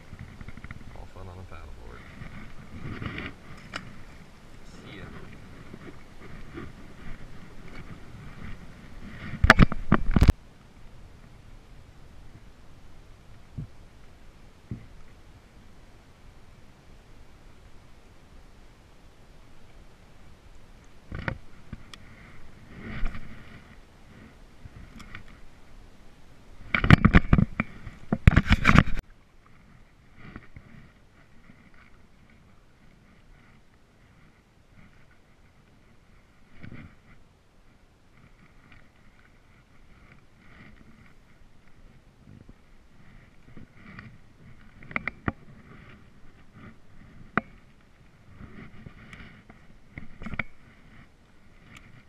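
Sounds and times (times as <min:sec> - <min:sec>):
gear knocking and scraping on paddleboard: 0:00.0 - 0:15.9, 0:19.5 - 0:52.0.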